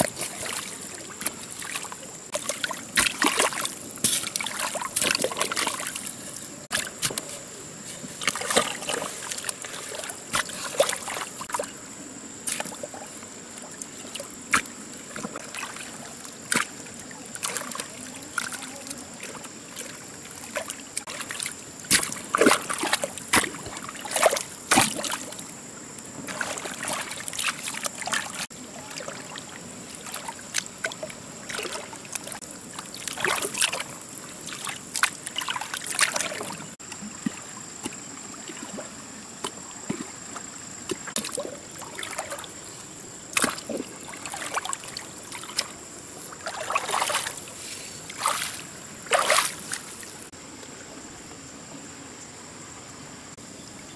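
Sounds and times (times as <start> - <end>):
water trickling: 0.0 - 7.1, 8.2 - 50.3
water splashing and sloshing: 0.0 - 51.5.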